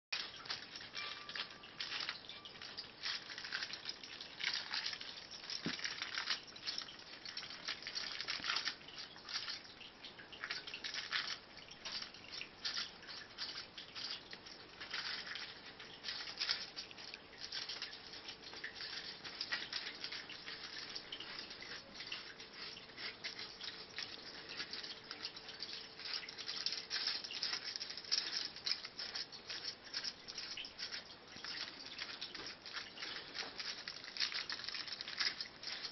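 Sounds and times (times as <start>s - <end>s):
aluminium foil crinkling: 0.1s - 35.9s
cats chewing and licking: 0.1s - 35.9s.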